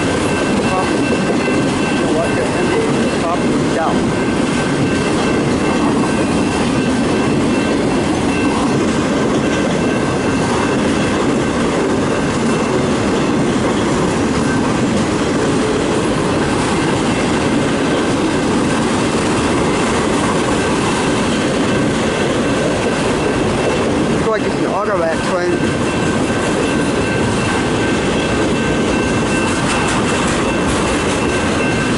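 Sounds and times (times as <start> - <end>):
steel wheels rumbling on rails: 0.0 - 31.9.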